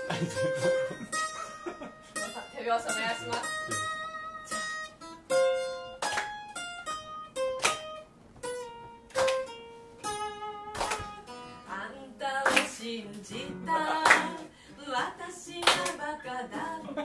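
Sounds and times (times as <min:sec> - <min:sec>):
acoustic guitar chords and plucking: 0:00.0 - 0:17.0.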